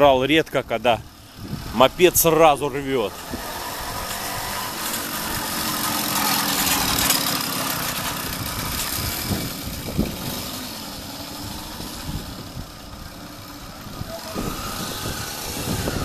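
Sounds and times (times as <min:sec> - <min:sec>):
moped engine revving: 0:00.0 - 0:16.0.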